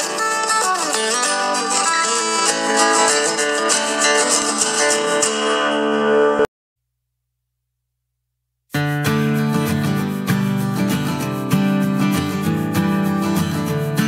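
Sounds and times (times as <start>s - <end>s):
plucked guitar music: 0.0s - 6.5s, 8.7s - 14.0s.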